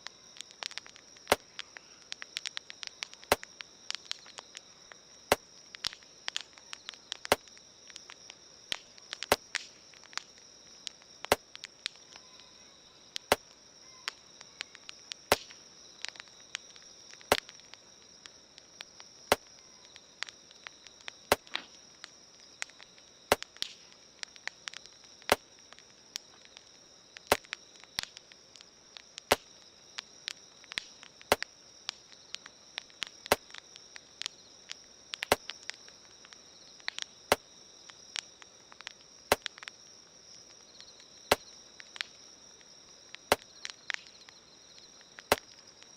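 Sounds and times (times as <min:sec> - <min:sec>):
campfire crackling: 0:00.0 - 0:45.9
insects chirring: 0:00.0 - 0:45.9.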